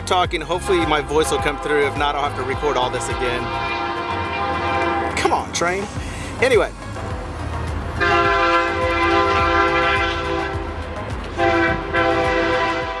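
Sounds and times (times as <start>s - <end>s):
low rumble of passing train: 0.0s - 13.0s
locomotive horn blasts: 0.6s - 6.0s, 8.0s - 13.0s.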